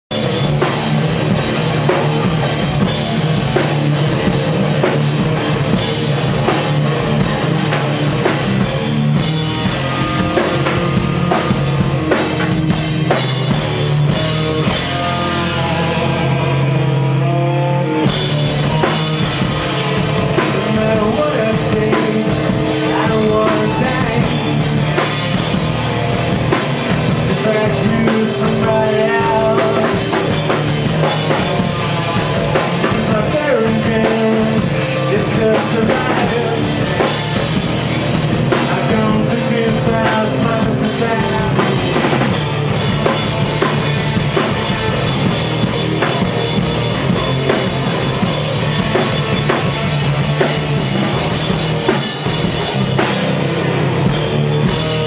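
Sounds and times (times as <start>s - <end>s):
drum kit: 0.0s - 55.0s
rock band playing loud: 0.0s - 55.0s
electric guitars: 0.1s - 55.0s.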